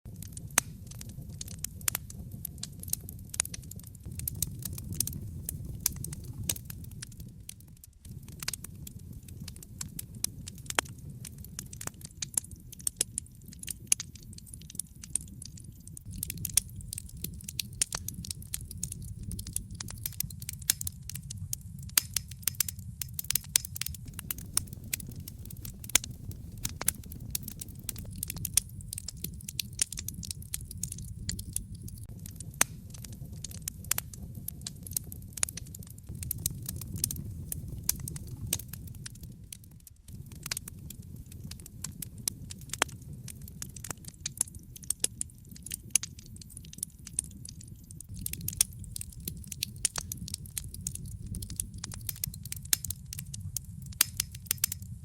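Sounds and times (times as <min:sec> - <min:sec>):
fire crackling and popping: 0:00.1 - 0:55.0.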